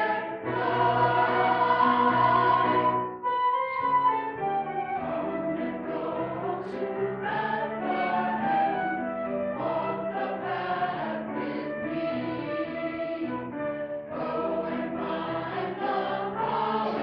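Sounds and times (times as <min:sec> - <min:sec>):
church choir singing: 0:00.0 - 0:03.2, 0:04.9 - 0:17.0.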